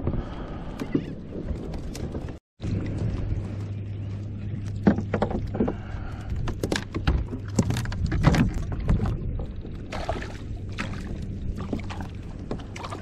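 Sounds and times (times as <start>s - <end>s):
low hum: 0.0s - 13.0s
water lapping against kayak: 0.0s - 13.0s.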